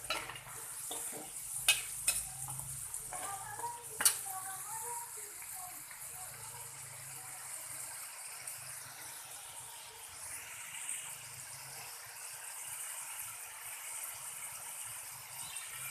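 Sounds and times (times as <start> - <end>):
potatoes sizzling in oil: 0.0 - 15.9.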